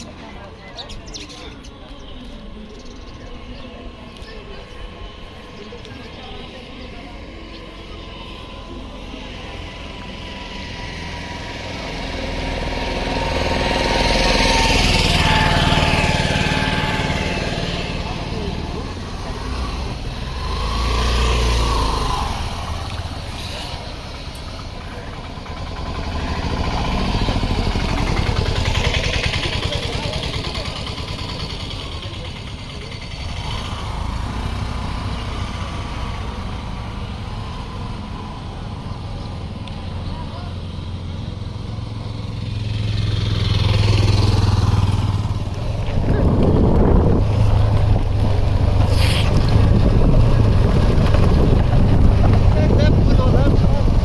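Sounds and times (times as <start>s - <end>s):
motorcycle running: 0.0s - 54.0s
road noise: 0.0s - 54.0s
vehicle engine: 0.0s - 54.0s.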